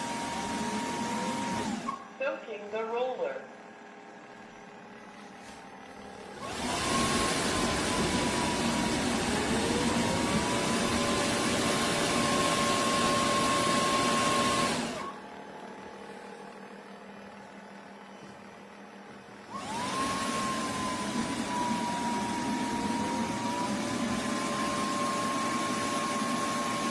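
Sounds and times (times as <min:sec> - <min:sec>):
vacuum mop motor whine: 0:00.0 - 0:02.3, 0:04.3 - 0:26.9.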